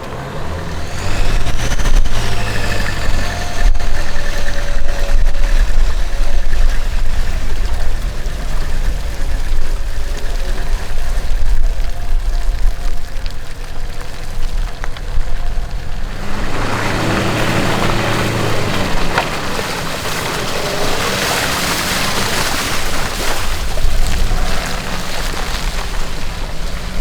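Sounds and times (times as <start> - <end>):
off-road engine rumbling: 0.0 - 27.0.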